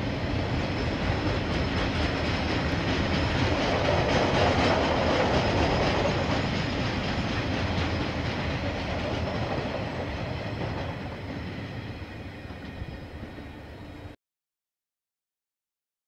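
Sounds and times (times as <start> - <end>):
train wagons rumbling on rails: 0.0 - 14.1.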